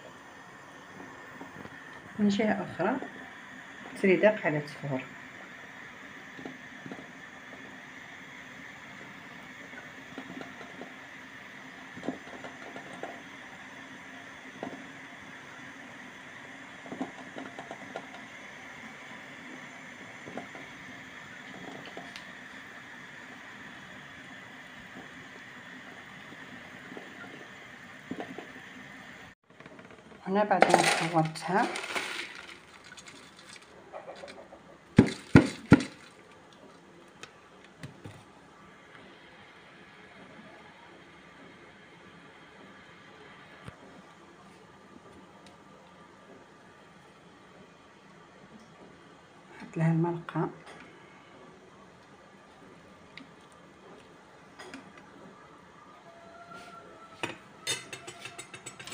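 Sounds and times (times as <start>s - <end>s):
boiling water steam hum: 0.0s - 58.9s.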